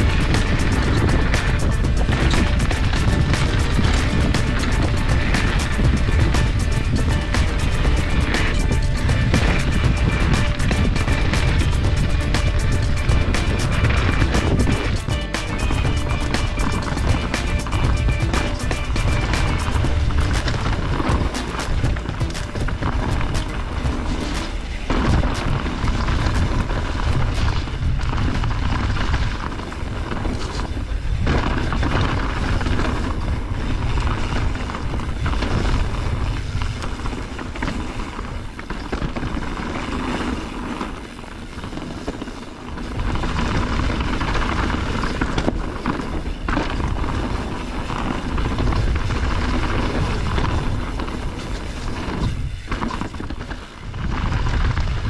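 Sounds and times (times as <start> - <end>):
bike tyres rattling over dirt: 0.0 - 55.0
wind on microphone: 0.0 - 55.0.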